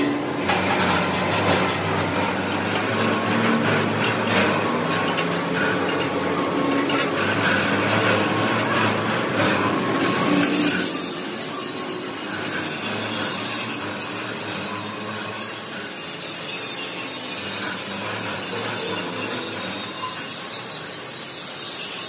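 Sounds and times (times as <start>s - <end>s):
machine-shop hum: 0.0s - 22.0s
metal tools clattering: 0.5s - 21.2s.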